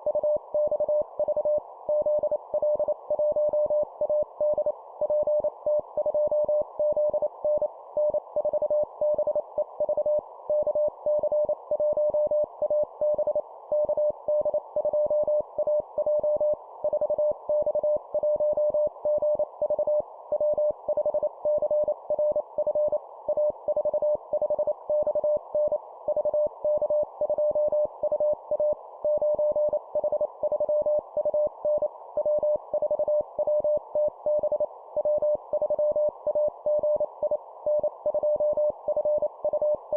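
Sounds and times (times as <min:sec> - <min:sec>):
morse code beeps: 0:00.1 - 0:39.8.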